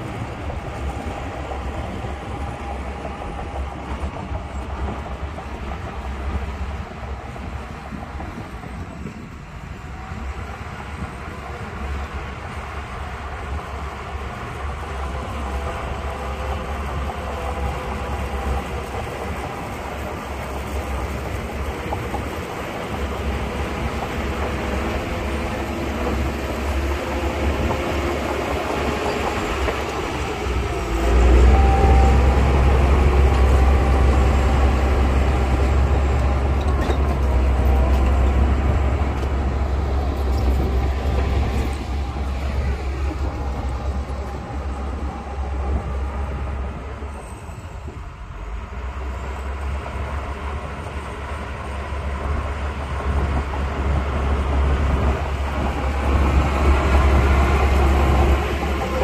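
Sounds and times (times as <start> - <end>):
diesel earthmoving machinery engine: 0.0 - 59.0.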